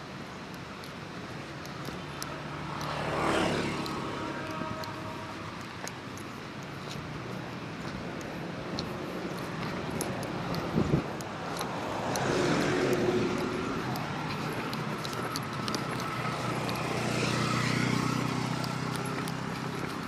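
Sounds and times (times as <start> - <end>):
truck passing: 0.0 - 20.0
motor scooter passing: 1.4 - 20.0.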